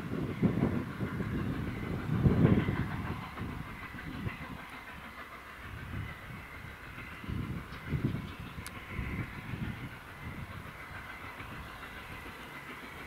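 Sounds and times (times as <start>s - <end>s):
train running by: 0.0s - 13.0s
steady hiss: 0.8s - 13.0s.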